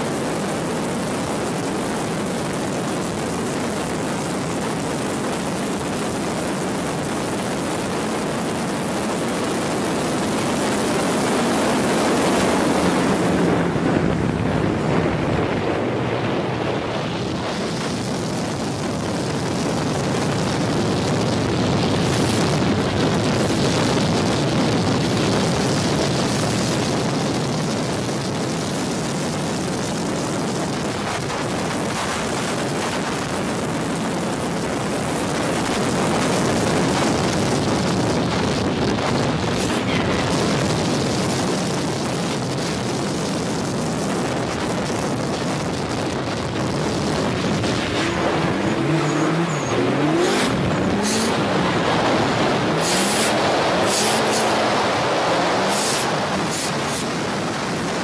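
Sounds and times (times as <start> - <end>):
car engines and tyres: 0.0 - 58.0
wind buffeting microphone: 0.0 - 58.0.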